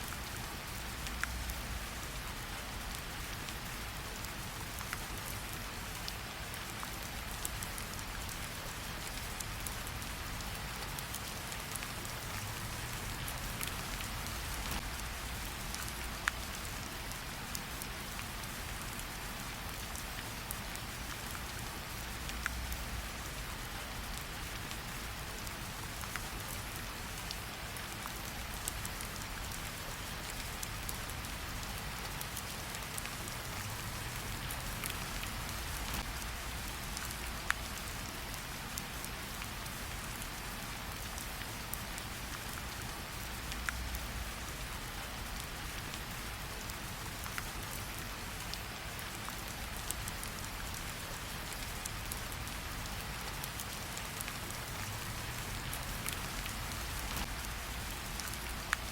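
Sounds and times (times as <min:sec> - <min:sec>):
steady rain hissing: 0:00.0 - 0:58.9.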